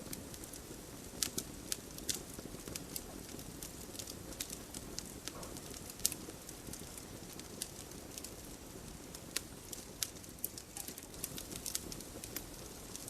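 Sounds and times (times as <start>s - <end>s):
campfire crackling and popping: 0.0s - 13.0s
low rumble of flames: 0.0s - 13.0s.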